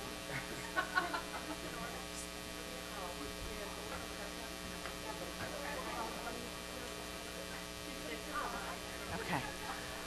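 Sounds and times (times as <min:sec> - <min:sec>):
background chatter: 0:00.0 - 0:10.0
electrical mains hum: 0:00.0 - 0:10.0.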